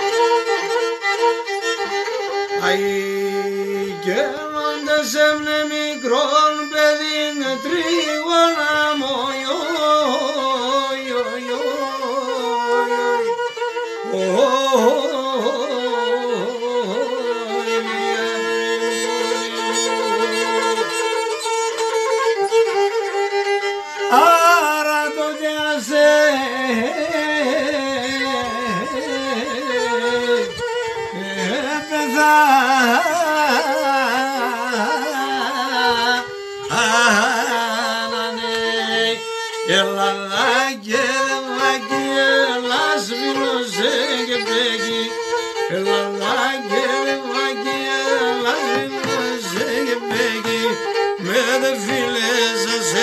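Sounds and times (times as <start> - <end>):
fiddle playing folk melody: 0.0 - 53.0.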